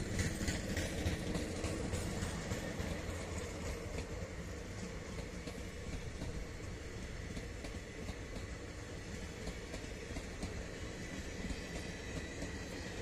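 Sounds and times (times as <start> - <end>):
rail joint clicks: 0.0 - 13.0
train wheels rumbling on rail: 0.0 - 13.0.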